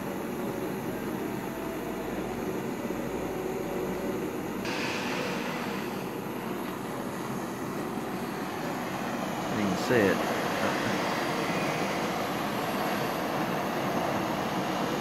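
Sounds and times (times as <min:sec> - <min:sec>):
blowtorch hissing: 0:00.0 - 0:15.0.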